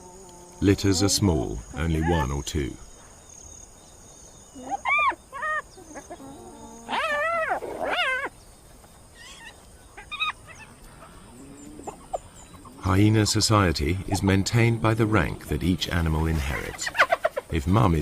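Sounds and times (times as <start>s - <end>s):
hyena cubs calling: 0.0s - 2.6s, 4.4s - 8.4s, 9.1s - 18.0s.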